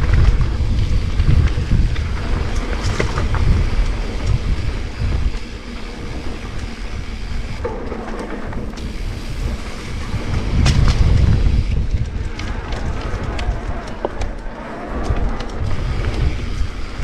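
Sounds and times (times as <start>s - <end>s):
low rumble of bike ride: 0.0s - 17.0s
sharp clicks and rattles: 0.0s - 17.0s
wind buffeting microphone: 0.0s - 17.0s.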